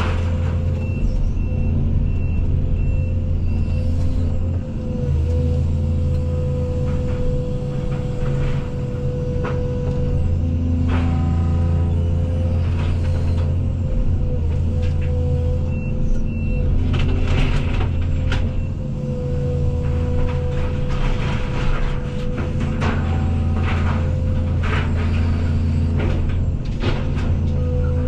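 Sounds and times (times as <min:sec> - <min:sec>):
excavator diesel engine whining: 0:00.0 - 0:28.0.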